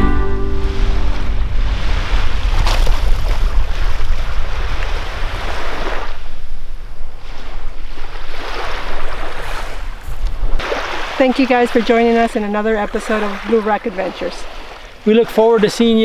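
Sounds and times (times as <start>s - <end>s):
wind rumbling on microphone: 0.0s - 15.0s
waves washing onto sand: 0.0s - 16.0s.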